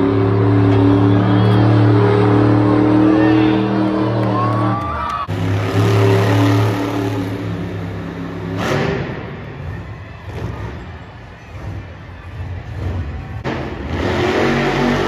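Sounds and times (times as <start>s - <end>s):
monster truck engines running: 0.0s - 15.0s.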